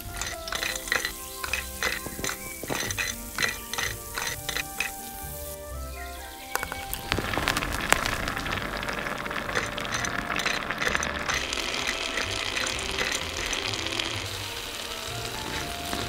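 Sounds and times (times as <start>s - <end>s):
oil frying food in a pan: 0.0s - 5.6s, 6.5s - 16.0s.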